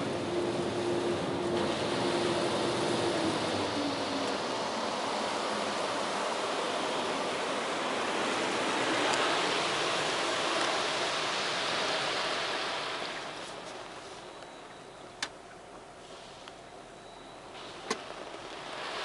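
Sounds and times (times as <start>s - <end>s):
car wash spraying water: 0.0s - 14.3s, 17.4s - 19.0s.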